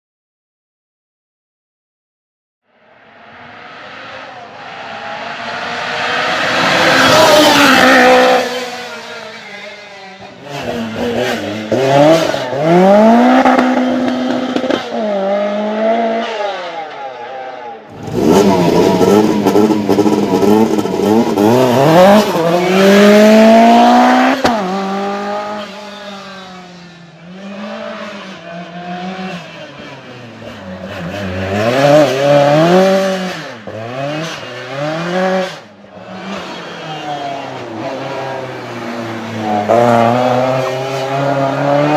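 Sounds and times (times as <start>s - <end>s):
rally car engine revving hard: 3.6s - 17.0s, 17.9s - 41.9s.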